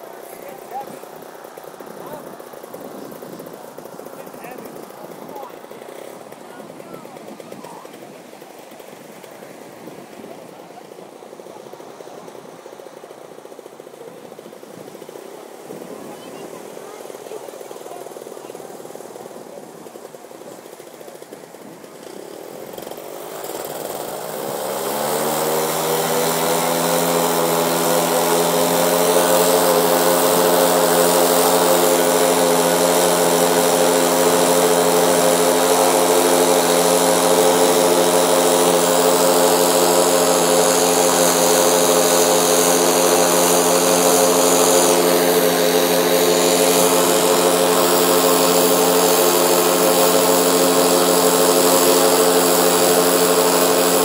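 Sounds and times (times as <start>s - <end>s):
paramotor engine throttling up: 0.0s - 54.0s.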